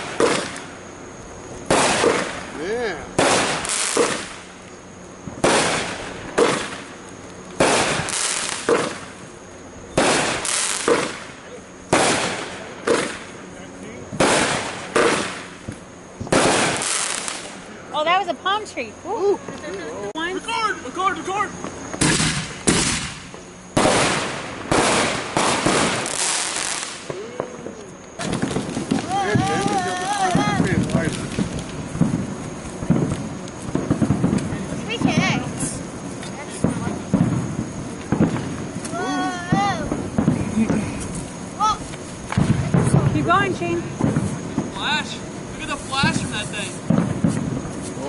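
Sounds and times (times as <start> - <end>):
fireworks bangs: 0.0 - 18.8, 19.4 - 48.0
crackling hiss of fireworks: 0.0 - 48.0.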